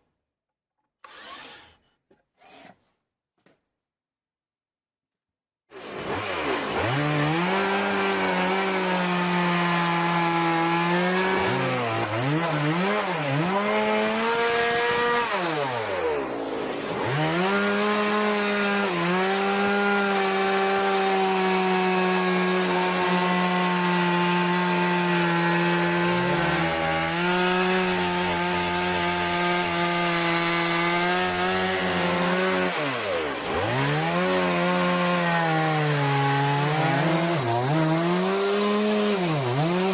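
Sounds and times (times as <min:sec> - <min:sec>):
chainsaw cutting through log: 0:01.0 - 0:02.8, 0:05.7 - 0:39.9.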